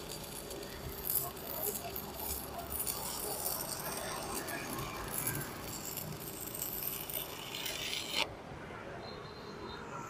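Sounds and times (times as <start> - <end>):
welding arc crackling: 0.0 - 8.3.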